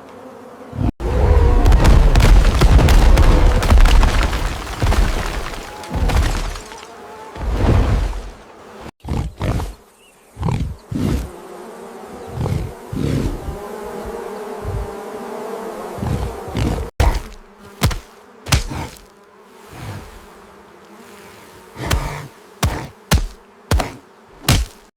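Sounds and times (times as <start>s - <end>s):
bee swarm buzzing: 0.0s - 9.0s, 9.8s - 24.9s.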